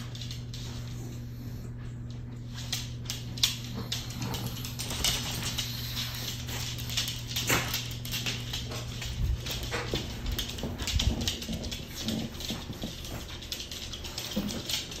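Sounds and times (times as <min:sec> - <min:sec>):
dog claws clicking on hard floor: 0:00.0 - 0:01.2, 0:02.0 - 0:15.0
steady low hum: 0:00.0 - 0:15.0.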